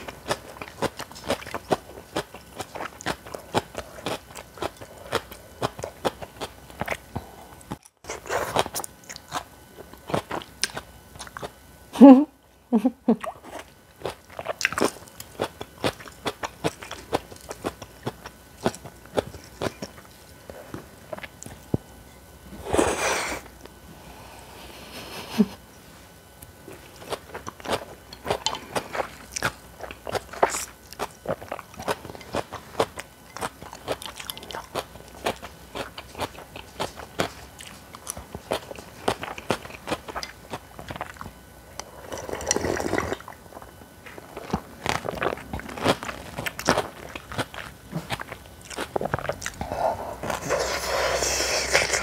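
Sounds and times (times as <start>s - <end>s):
person chewing crunchy food: 0.0s - 11.6s, 13.2s - 23.8s, 26.2s - 52.0s.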